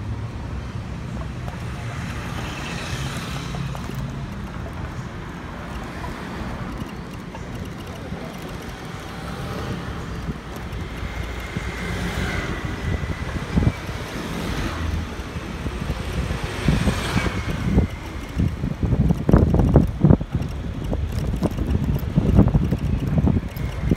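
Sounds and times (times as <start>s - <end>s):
street traffic: 0.0s - 23.9s
vehicles passing close: 0.0s - 23.9s
wind rumbling on microphone: 0.0s - 23.9s.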